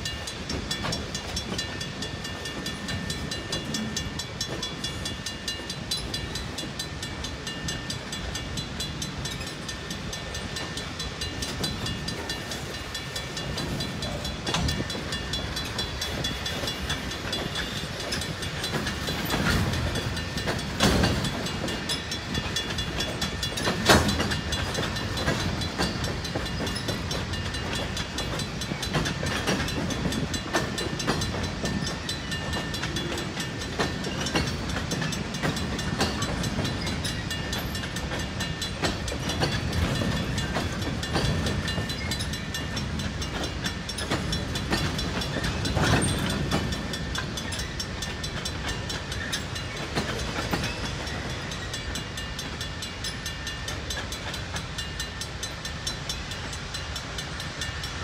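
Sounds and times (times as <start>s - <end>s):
crossing bell ringing: 0.0s - 58.0s
train wheels clattering on rails: 0.0s - 58.0s.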